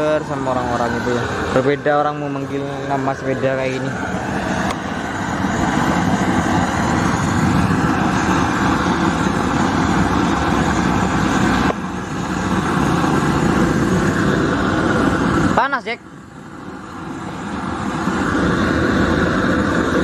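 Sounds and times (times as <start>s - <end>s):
gas torch burning: 0.0s - 20.0s.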